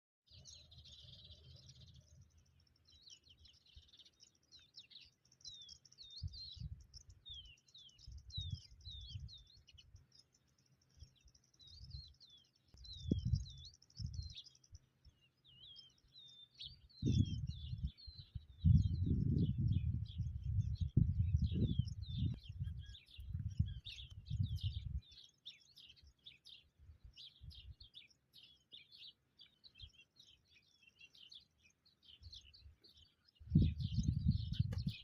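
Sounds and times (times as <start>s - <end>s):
songbirds chirping and trilling: 0.3s - 35.0s.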